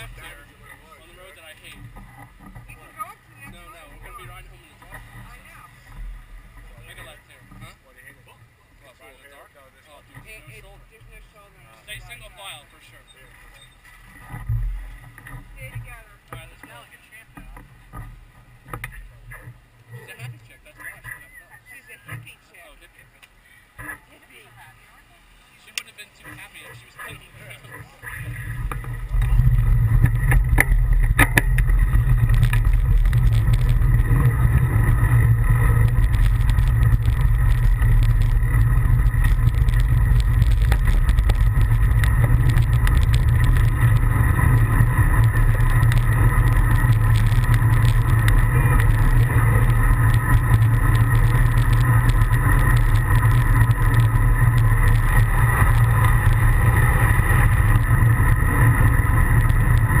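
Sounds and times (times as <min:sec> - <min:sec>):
road and wind rumble: 0:00.0 - 0:08.9, 0:09.5 - 1:00.0.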